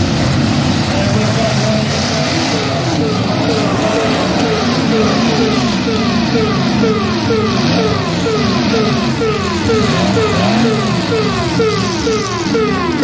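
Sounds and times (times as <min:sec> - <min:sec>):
truck engines revving hard: 0:00.0 - 0:13.0.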